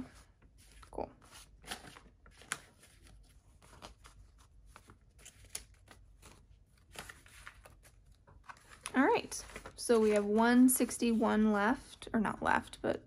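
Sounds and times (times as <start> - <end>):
banknotes rustling: 0.0 - 12.0.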